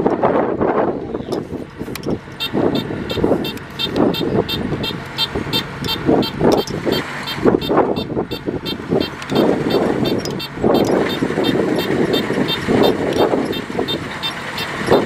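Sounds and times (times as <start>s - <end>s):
combine harvester running: 0.0s - 15.0s
wind buffeting microphone: 0.0s - 15.0s
rapid electronic warning beep: 2.4s - 15.0s.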